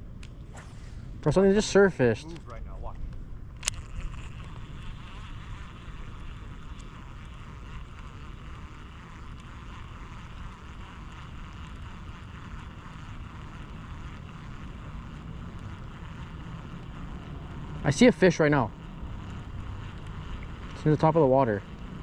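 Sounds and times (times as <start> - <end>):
even hiss: 3.7 - 22.0.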